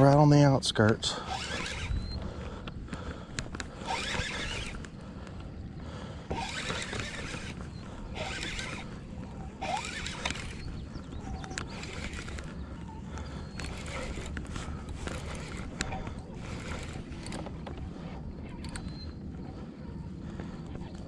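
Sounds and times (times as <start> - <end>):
water lapping along kayak hull: 1.2 - 18.8.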